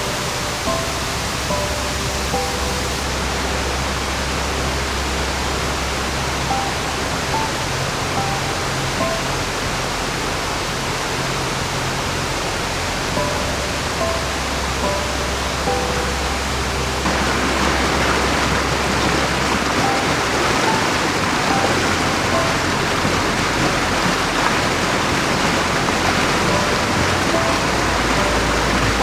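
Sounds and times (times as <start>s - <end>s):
soft background music: 0.0s - 29.0s
stream rushing: 0.0s - 29.0s.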